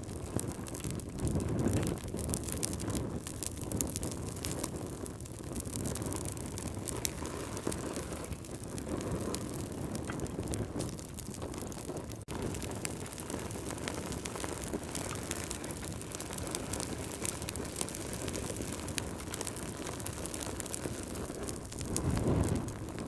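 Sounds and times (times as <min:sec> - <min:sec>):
flames rumbling: 0:00.0 - 0:23.0
wood fire crackling: 0:00.0 - 0:23.0.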